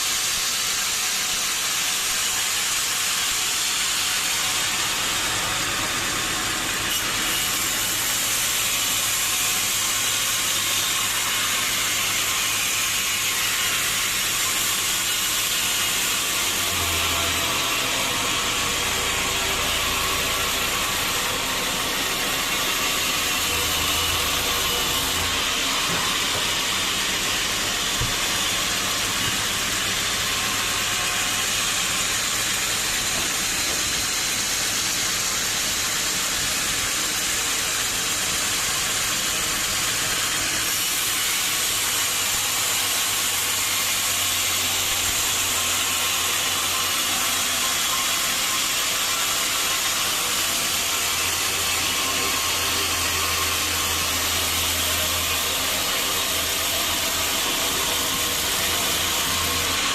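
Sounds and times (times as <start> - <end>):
saw cutting log hissing: 0.0 - 59.9.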